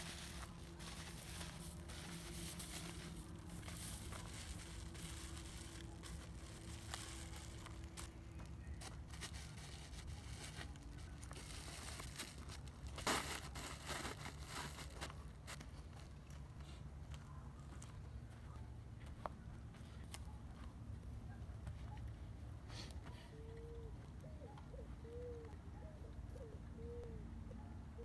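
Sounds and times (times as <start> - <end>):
dry wood and brush crackling: 0.0 - 24.8.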